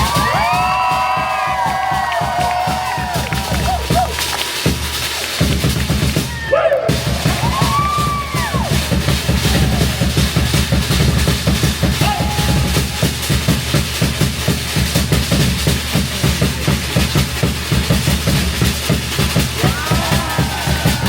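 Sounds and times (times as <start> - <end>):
fast drumming music: 0.0 - 21.0.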